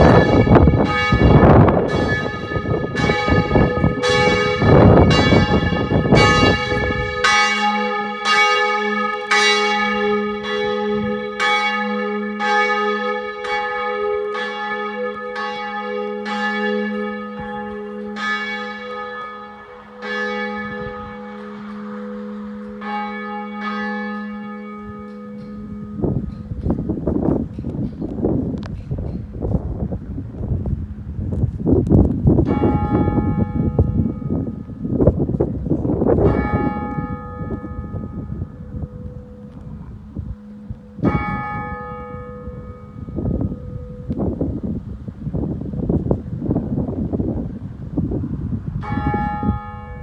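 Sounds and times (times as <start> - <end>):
church bell tolling: 0.0 - 50.0.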